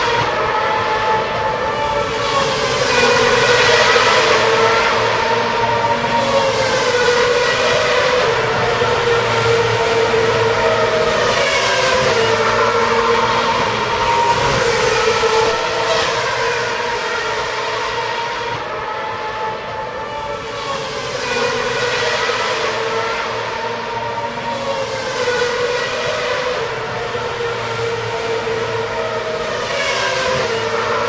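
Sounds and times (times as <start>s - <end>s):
racing car engines passing: 0.0s - 31.0s.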